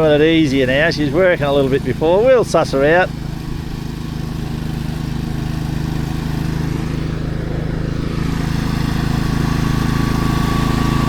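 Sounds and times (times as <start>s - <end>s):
ride-on mower engine humming: 0.0s - 11.0s.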